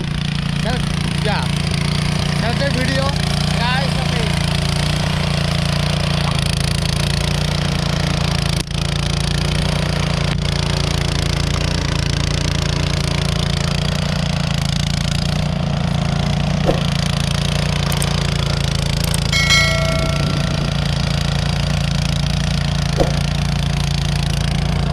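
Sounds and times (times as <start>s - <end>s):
engine running steadily: 0.0s - 24.9s.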